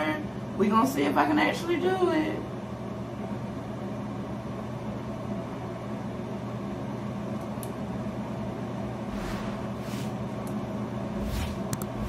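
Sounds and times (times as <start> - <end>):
steady low hum with hiss: 0.0 - 12.0.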